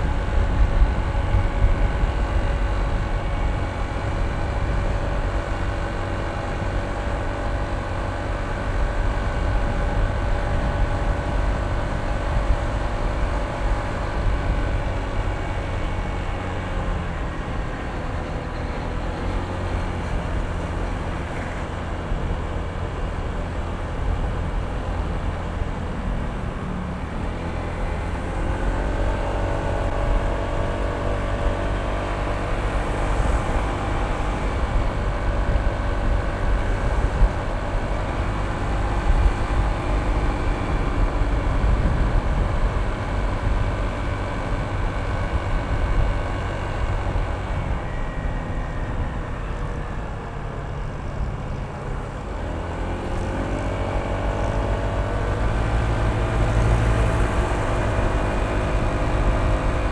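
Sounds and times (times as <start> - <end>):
scooter engine running: 0.0 - 59.9
wind rumble on microphone: 0.0 - 59.9.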